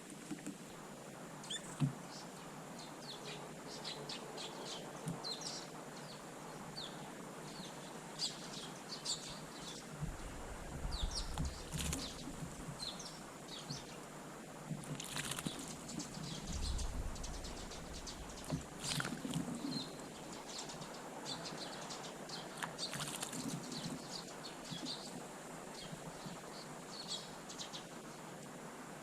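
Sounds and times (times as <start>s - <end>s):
small birds chirping: 1.4s - 28.4s.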